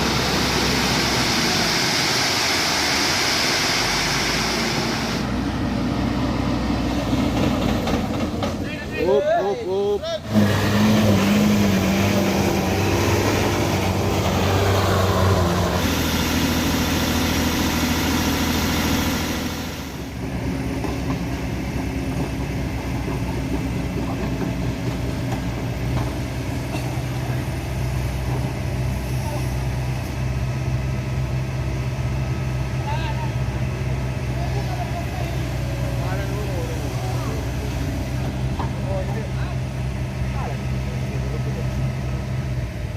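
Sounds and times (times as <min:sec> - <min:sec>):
heavy vehicle engines running: 0:00.0 - 0:42.9.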